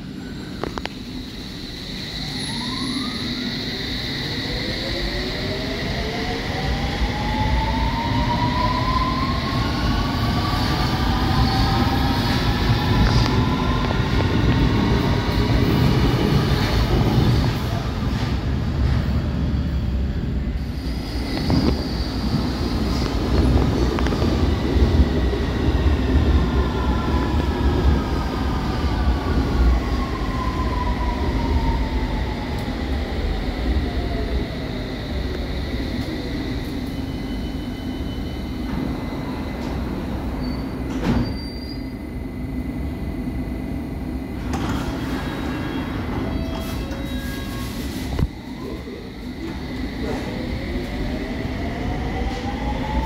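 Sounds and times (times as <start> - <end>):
rumble of wheels on rail: 0.0 - 53.0.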